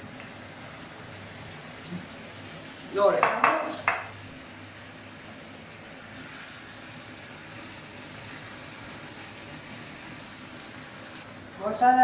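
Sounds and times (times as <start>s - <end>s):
sauce simmering in a frying pan: 0.0s - 11.9s.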